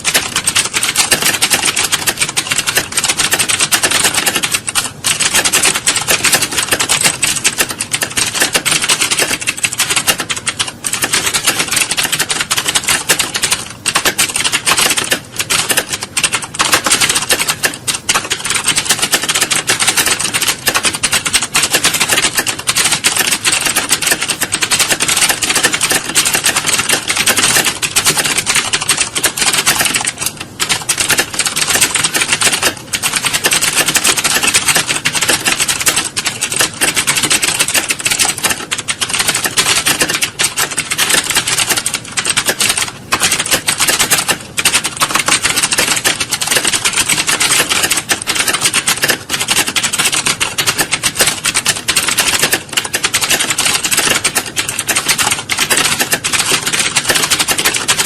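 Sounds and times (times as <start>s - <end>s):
keyboards clattering: 0.0s - 58.0s.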